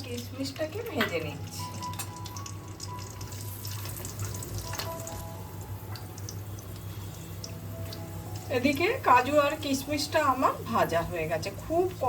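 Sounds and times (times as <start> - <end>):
nuts frying in oil sizzling: 0.0 - 12.0.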